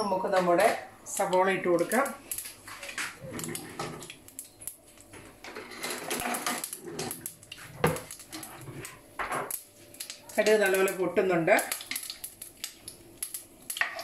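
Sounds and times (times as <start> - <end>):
seeds popping in hot oil: 0.5 - 14.0.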